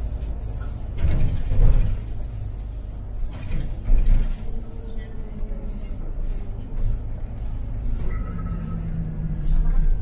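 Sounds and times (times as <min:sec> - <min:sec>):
bus body rattling: 0:00.0 - 0:10.0
bus engine and road rumble: 0:00.0 - 0:10.0.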